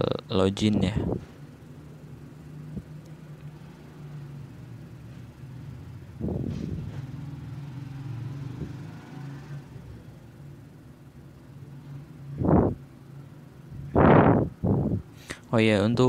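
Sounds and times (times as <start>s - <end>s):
low motor hum: 0.0s - 15.1s.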